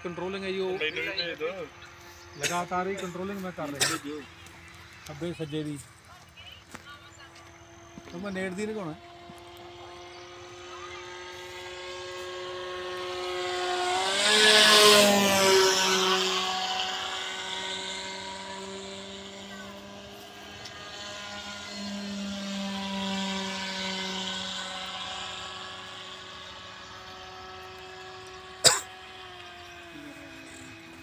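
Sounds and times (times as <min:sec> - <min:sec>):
model airplane motor whine: 0:00.0 - 0:31.0.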